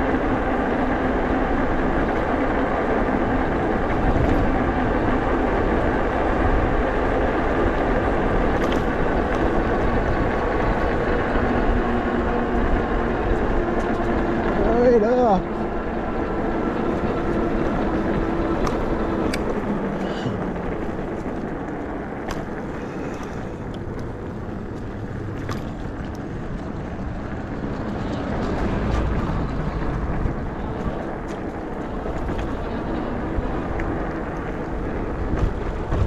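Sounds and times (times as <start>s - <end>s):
tyres rolling on asphalt: 0.0s - 36.0s
wind buffeting microphone: 0.0s - 36.0s.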